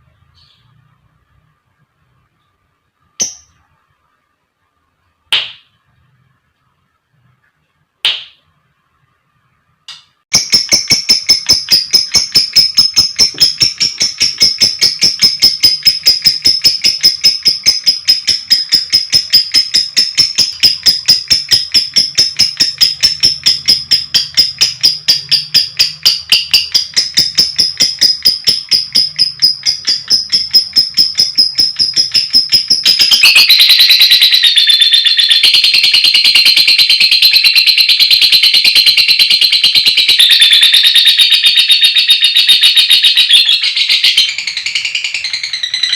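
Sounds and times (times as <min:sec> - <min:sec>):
lovebird chirping: 0:00.0 - 0:01.6, 0:02.3 - 0:04.0, 0:10.3 - 0:45.9.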